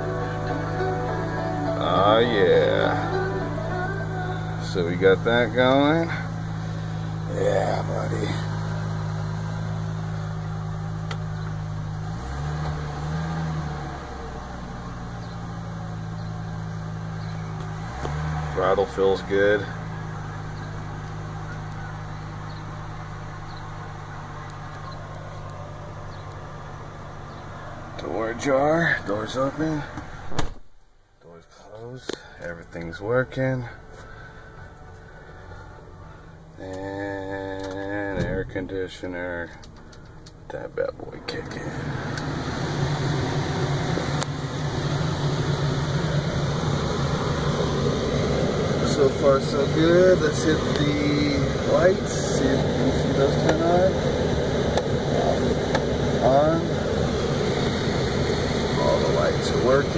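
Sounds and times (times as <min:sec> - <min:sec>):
pickup truck engine idling: 0:00.0 - 0:30.4, 0:31.7 - 0:59.9
air-conditioning blower rushing: 0:00.0 - 0:30.8, 0:32.4 - 0:59.9.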